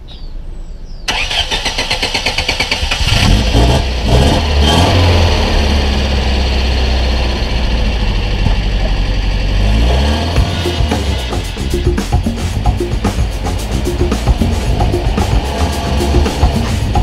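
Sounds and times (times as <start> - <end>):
car engine cranking and idling: 1.1 - 17.0.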